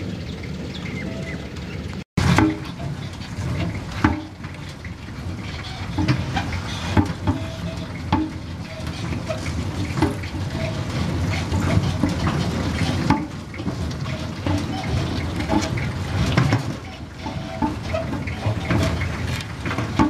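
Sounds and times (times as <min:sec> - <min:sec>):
road roller engine running: 0:00.0 - 0:20.0
sharp clicks and knocks: 0:01.9 - 0:20.0.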